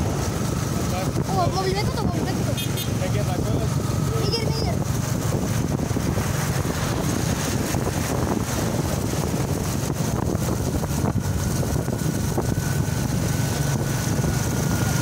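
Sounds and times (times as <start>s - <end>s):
small motorcycle engines: 0.0s - 15.0s
wind rush on microphone: 0.0s - 15.0s.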